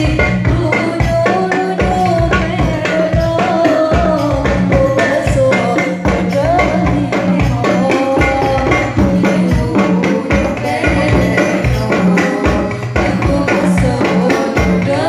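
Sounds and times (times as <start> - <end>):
percussion beat: 0.0 - 15.0
women singing into microphones: 0.0 - 15.0.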